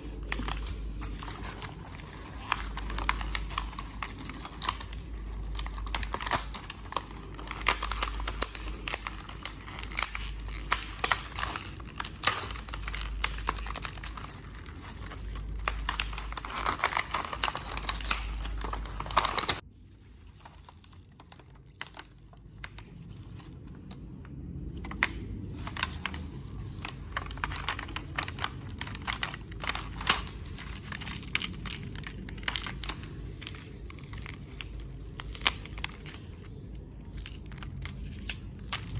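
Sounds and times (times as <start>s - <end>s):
packaging crinkling and tearing: 0.0s - 38.9s.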